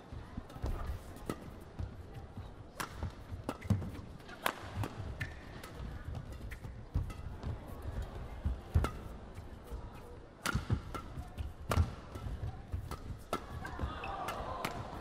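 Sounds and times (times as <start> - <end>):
racket striking shuttlecock: 0.6 - 15.0.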